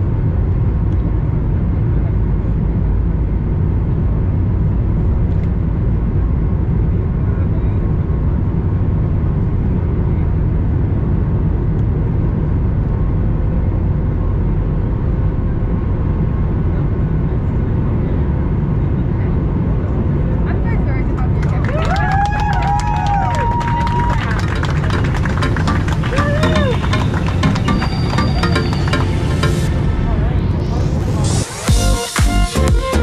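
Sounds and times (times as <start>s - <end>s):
jet engines deep rumble: 0.0s - 31.8s.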